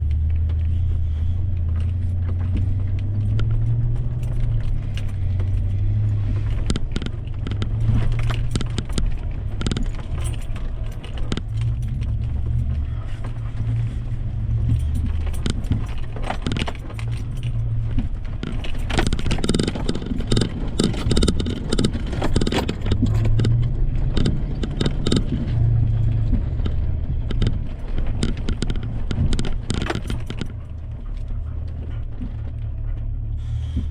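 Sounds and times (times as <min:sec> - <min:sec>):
truck engine under load: 0:00.0 - 0:33.9
vehicle rattles and clicks: 0:00.0 - 0:33.9.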